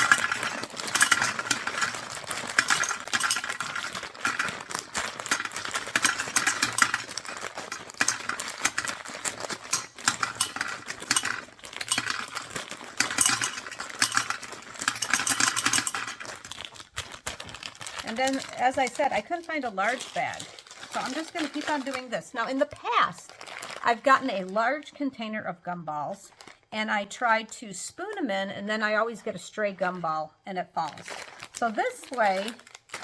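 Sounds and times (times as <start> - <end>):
gumballs clattering into globe: 0.0 - 24.5, 30.8 - 33.0.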